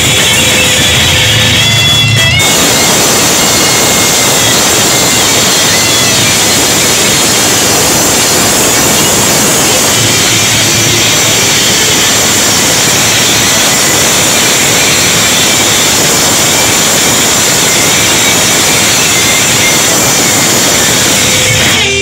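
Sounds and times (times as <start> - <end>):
live metal band playing loud: 0.0 - 22.0.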